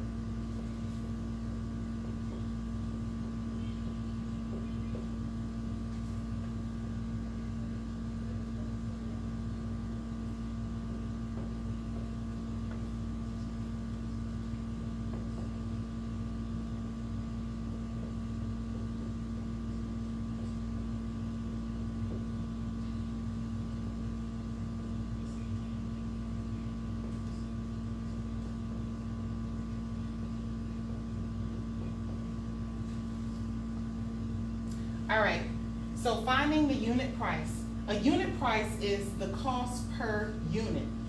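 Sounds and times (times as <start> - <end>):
machine hum: 0.0 - 41.0.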